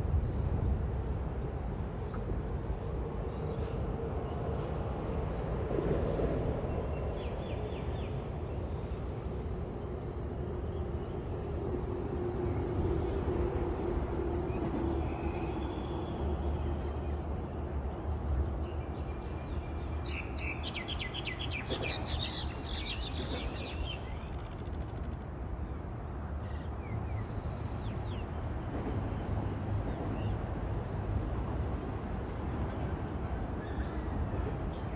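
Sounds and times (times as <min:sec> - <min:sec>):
motorway traffic rumble: 0:00.0 - 0:34.9.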